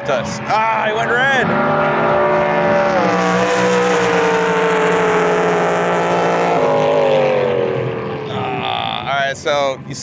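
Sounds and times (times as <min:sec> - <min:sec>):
jet boat engines wailing: 0:00.0 - 0:10.0.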